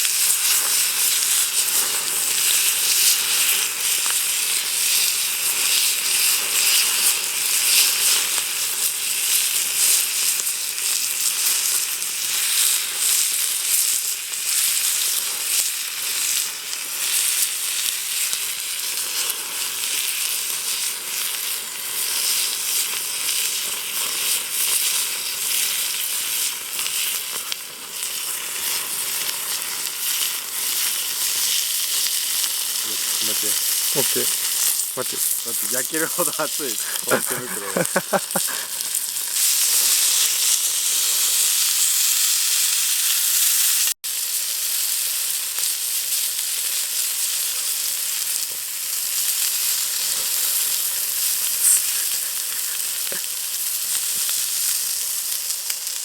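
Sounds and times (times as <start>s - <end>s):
wood fire crackles: 0.0s - 40.7s, 43.8s - 56.0s
steak sizzling: 0.0s - 56.0s.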